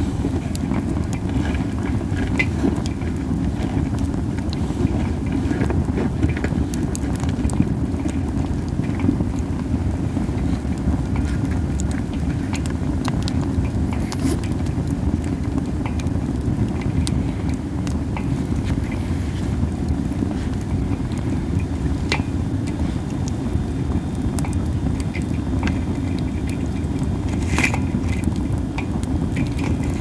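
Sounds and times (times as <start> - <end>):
fire low rumble: 0.0 - 30.0
wood fire crackling and popping: 0.0 - 30.0.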